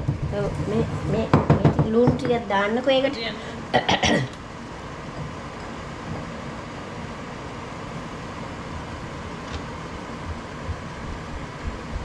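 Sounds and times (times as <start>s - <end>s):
background hum: 0.0s - 12.0s.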